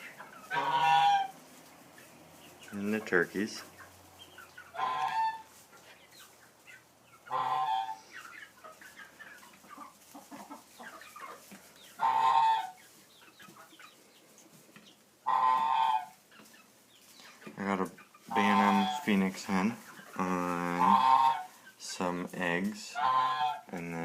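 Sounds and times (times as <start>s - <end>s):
poultry loud calls: 0.0s - 14.3s, 14.9s - 17.5s, 18.2s - 19.2s, 19.9s - 21.7s, 22.9s - 23.7s
poultry clucking and chirping: 0.0s - 24.0s.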